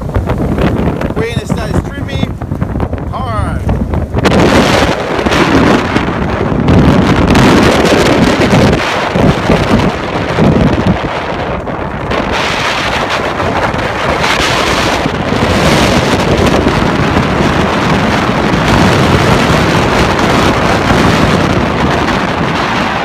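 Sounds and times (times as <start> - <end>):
ocean surf breaking: 0.0 - 23.0
wind buffeting microphone: 0.0 - 23.0.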